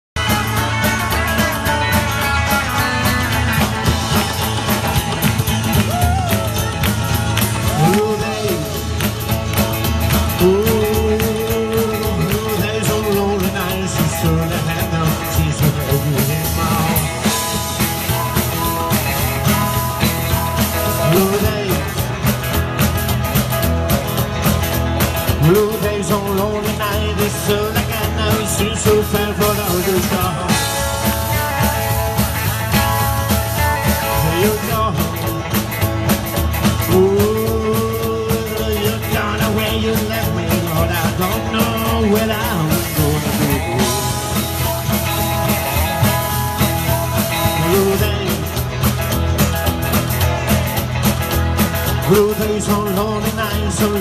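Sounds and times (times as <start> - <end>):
rock and roll band playing: 0.0 - 54.0
bending guitar lead line: 0.2 - 54.0.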